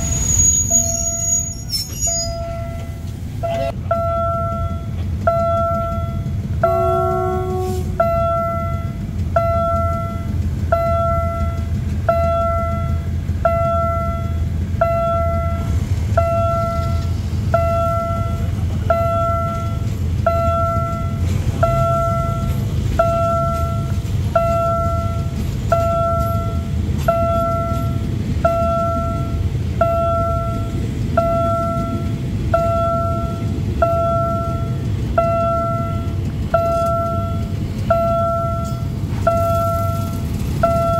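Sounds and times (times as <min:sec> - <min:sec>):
level crossing warning bell: 0:00.0 - 0:40.9
train carriages rumbling past: 0:00.0 - 0:40.9.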